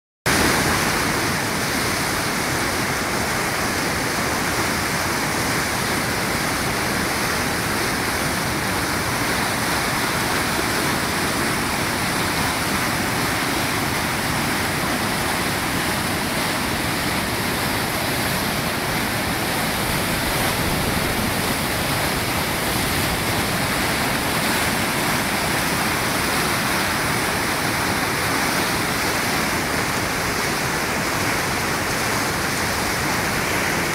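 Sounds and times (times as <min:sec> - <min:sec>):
floodwater rushing down spillway: 0:00.3 - 0:33.9.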